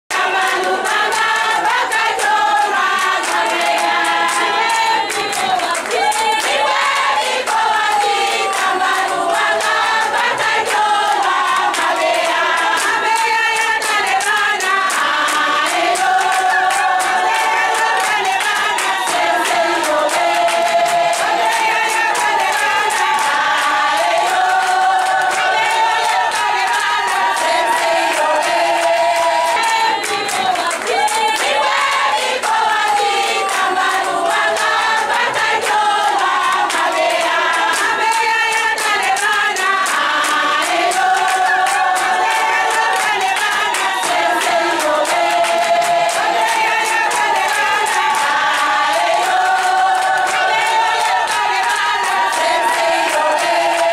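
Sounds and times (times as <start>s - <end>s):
hand clapping: 0.1s - 53.9s
women singing in chorus: 0.1s - 53.9s.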